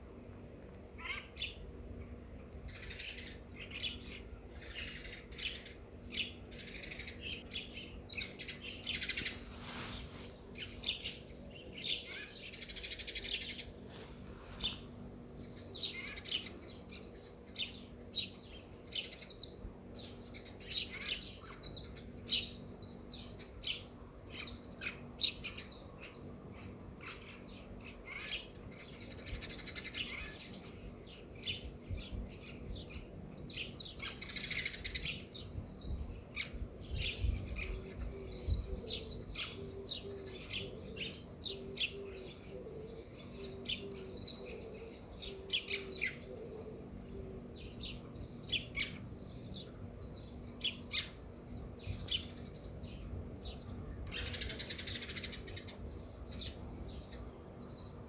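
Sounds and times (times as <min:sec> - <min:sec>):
small birds chirping: 0:00.2 - 0:58.0.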